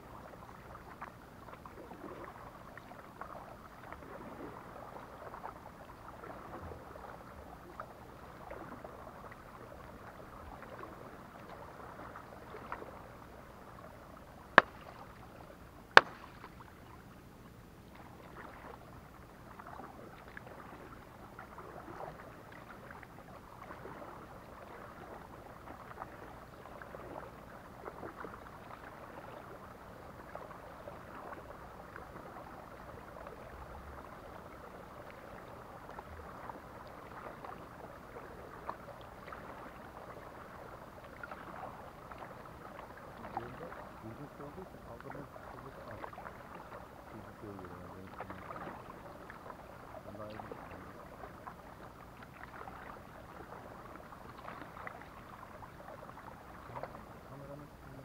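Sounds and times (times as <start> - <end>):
paddle splashing in water: 0.0 - 58.0.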